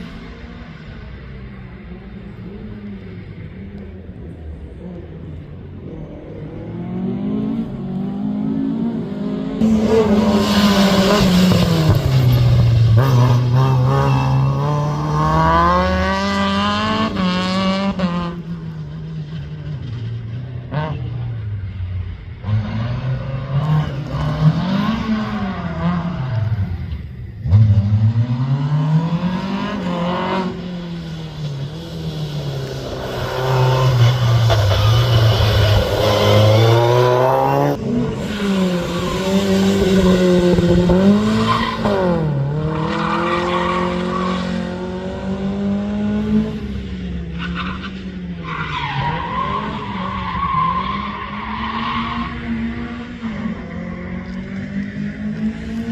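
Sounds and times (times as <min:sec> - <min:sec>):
rally car engine revving: 0:02.2 - 0:55.9.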